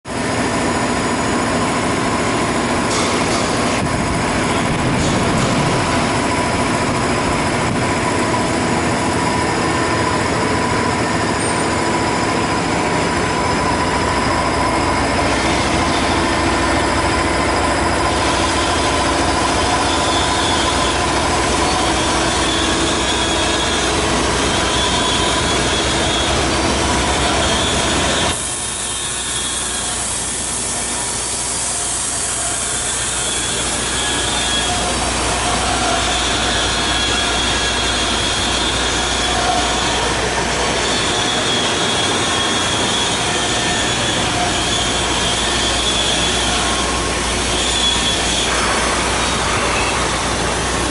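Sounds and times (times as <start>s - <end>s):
folding machine running with hum: 0.1s - 50.9s.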